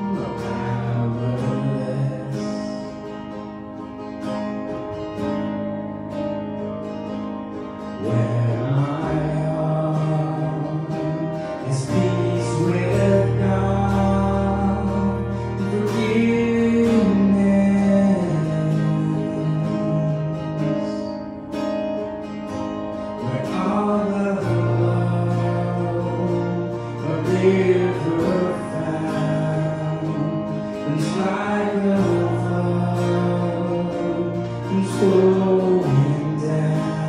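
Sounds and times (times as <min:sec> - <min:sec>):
man singing: 0:00.0 - 0:03.4, 0:07.8 - 0:21.3, 0:23.0 - 0:37.0
acoustic guitar: 0:00.0 - 0:37.0.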